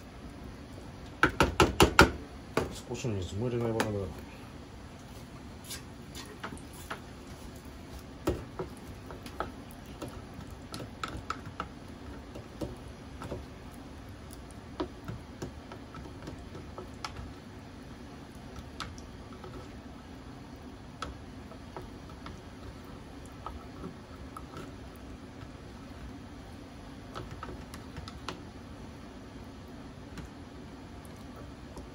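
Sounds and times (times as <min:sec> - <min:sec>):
gas stove burning: 0:00.0 - 0:31.9.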